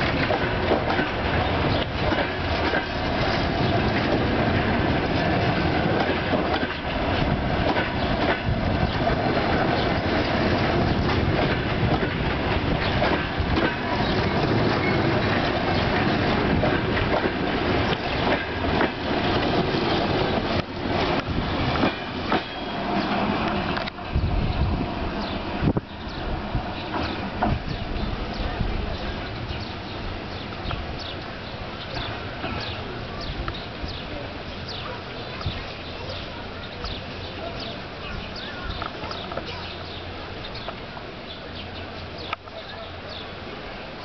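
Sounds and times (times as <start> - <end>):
wheels clickety-clack over rail joints: 0.0 - 43.9
train wheels rumbling on rails: 0.0 - 44.0.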